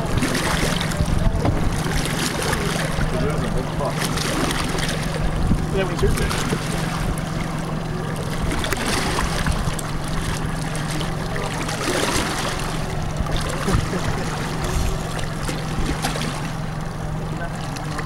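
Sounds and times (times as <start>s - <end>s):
boat engine idling: 0.0s - 18.0s
water lapping against hull: 0.0s - 18.0s.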